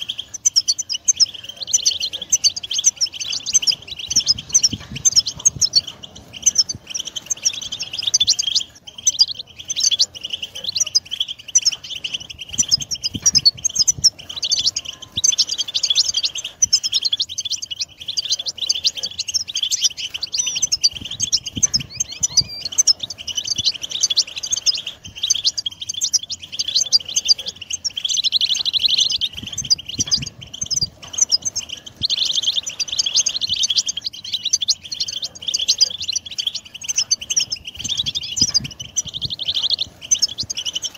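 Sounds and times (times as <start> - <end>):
goldfinches twittering song: 0.0 - 40.9.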